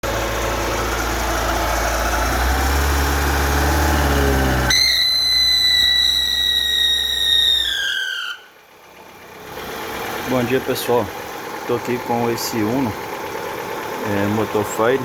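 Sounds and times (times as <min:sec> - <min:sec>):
car engine running: 0:00.0 - 0:07.8, 0:08.5 - 0:15.0.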